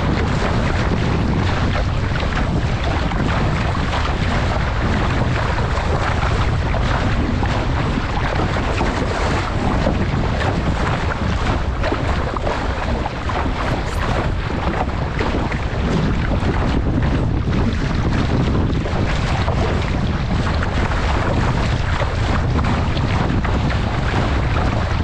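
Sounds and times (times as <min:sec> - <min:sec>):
water rushing along boat bow: 0:00.0 - 0:25.0
wind buffeting microphone: 0:00.0 - 0:25.0.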